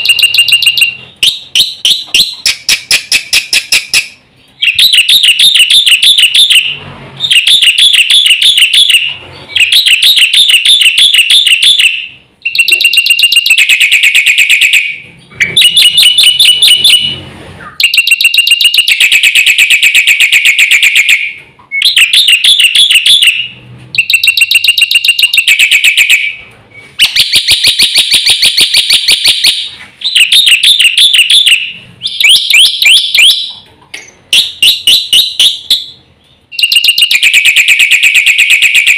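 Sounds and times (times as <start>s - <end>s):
starling singing: 0.0s - 33.6s.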